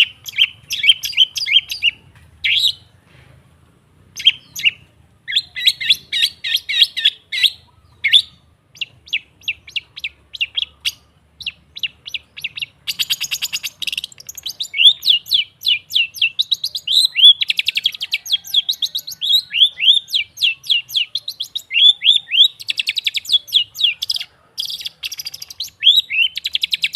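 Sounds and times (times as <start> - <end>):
harsh bird chattering: 0.0 - 2.9, 4.1 - 26.9.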